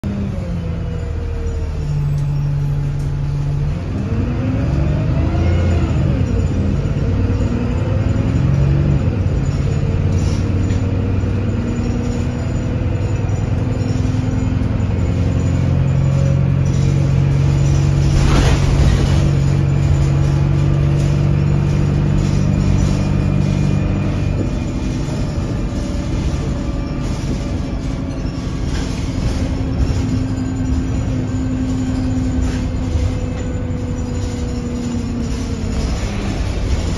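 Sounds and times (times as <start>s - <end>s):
bus engine and drivetrain running: 0.0s - 36.9s.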